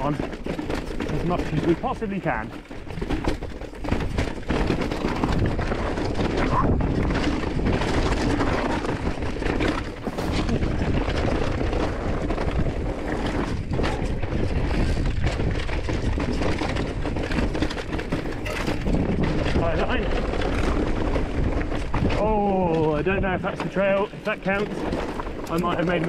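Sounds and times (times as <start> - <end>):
bike tyres rumbling over stones: 0.0 - 26.0
wind noise on microphone: 2.8 - 23.7.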